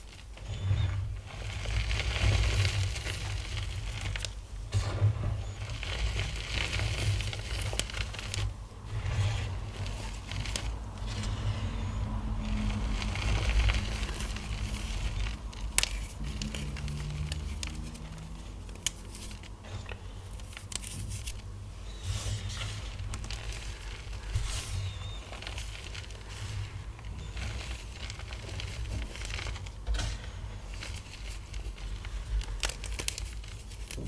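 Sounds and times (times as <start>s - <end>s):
powder rustling: 0.0s - 34.0s.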